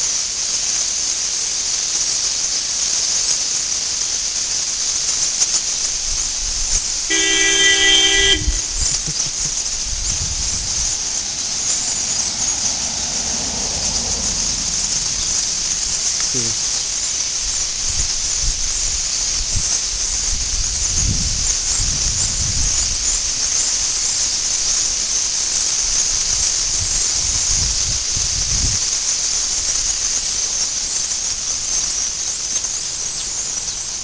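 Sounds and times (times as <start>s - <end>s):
high-pitched hiss: 0.0s - 34.0s.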